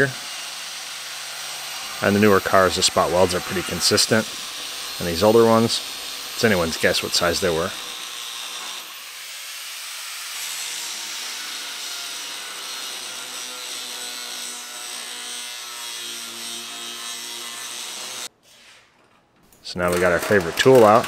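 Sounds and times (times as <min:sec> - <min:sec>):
power grinder grinding steel: 0:00.0 - 0:18.3, 0:19.9 - 0:21.0.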